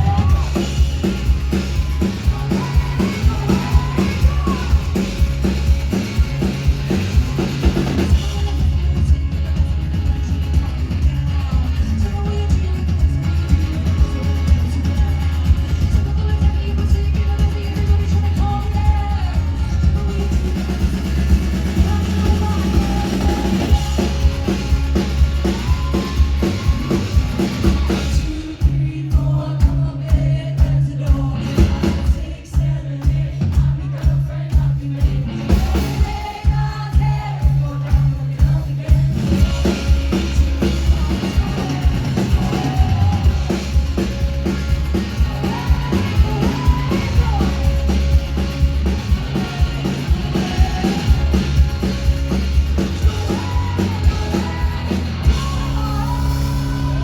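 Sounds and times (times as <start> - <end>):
woman singing: 0.0 - 5.6, 6.6 - 57.0
live rock band playing: 0.0 - 57.0.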